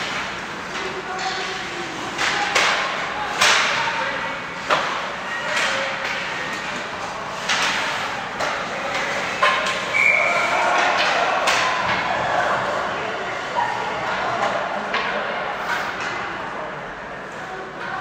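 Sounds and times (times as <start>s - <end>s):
hockey sticks and puck cracking: 0.0s - 12.9s, 14.0s - 16.5s
murmur of spectators: 0.0s - 18.0s.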